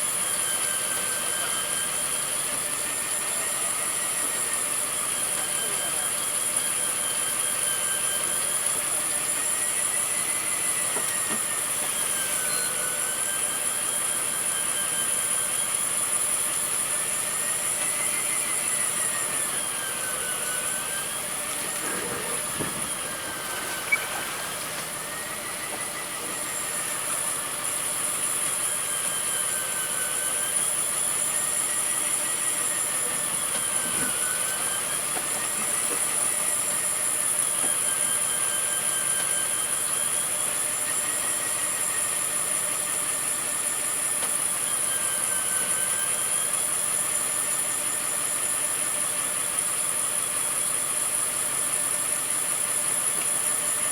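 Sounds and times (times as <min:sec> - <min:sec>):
machinery whine: 0:00.0 - 0:53.9.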